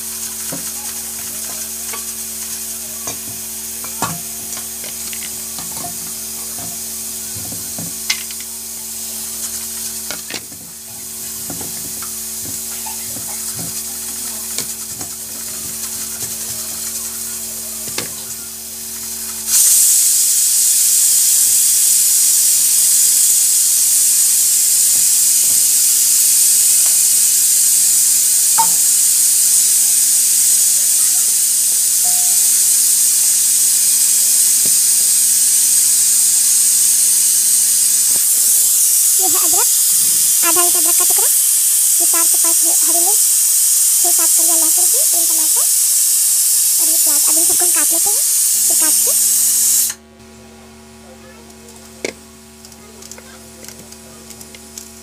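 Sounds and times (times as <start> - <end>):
pressure cooker steam hiss: 0.0 - 50.1.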